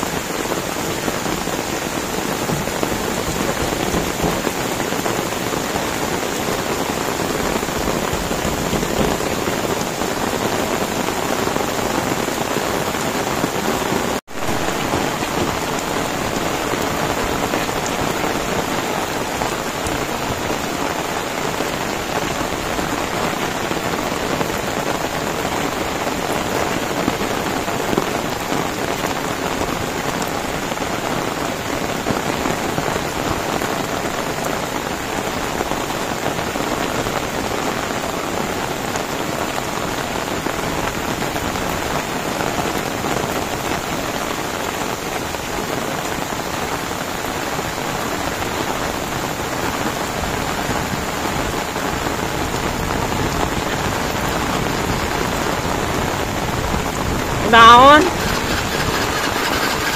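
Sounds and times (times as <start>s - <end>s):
heavy rain on dirt and leaves: 0.0s - 59.9s.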